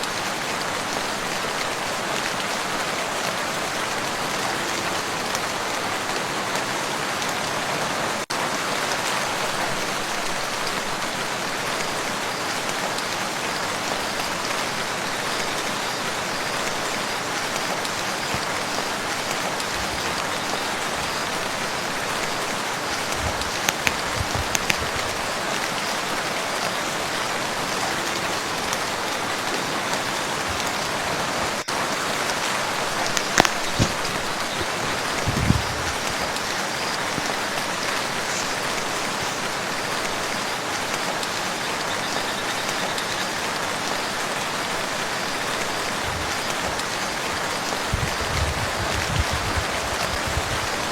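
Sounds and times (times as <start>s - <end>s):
rain falling on lake: 0.0s - 50.9s.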